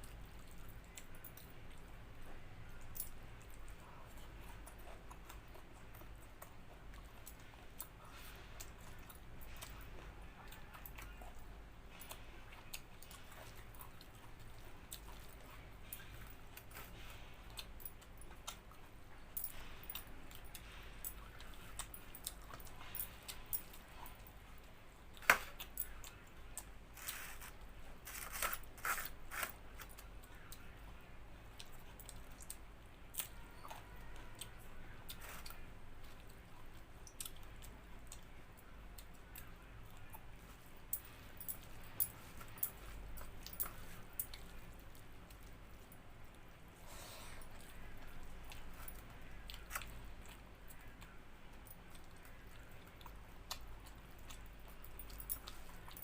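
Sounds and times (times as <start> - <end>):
faint low hum: 0.0 - 56.0
person chewing and crunching food: 0.0 - 56.0.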